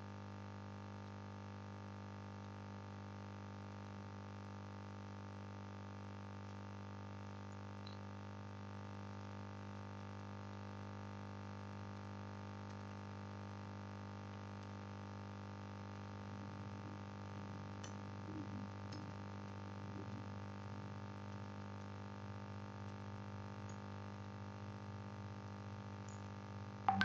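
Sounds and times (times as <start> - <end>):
low electrical hum: 2.4 - 27.0.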